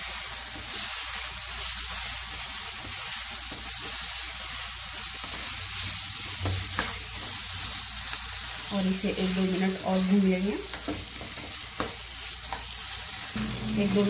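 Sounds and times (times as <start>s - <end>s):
meat sizzling in a pan: 0.0s - 14.0s
spatula stirring in a pan: 0.0s - 14.0s.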